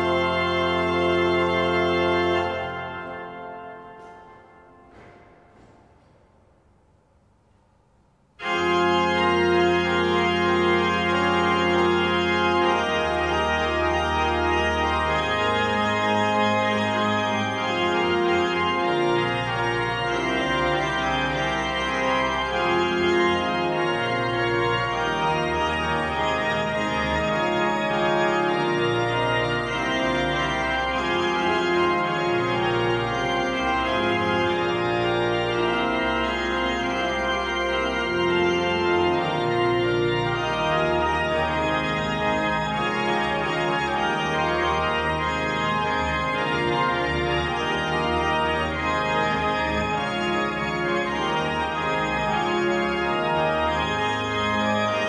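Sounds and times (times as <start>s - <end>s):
pipe organ playing: 0.0s - 6.3s, 8.4s - 55.0s.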